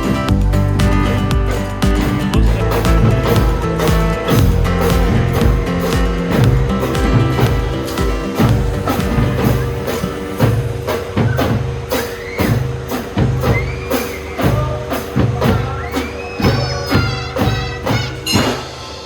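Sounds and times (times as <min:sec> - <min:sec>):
children's marching drum band: 0:00.0 - 0:19.0.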